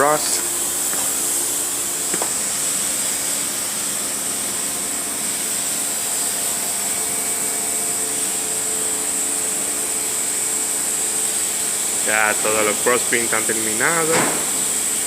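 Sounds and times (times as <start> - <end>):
machine hissing with high whine: 0.0 - 15.0.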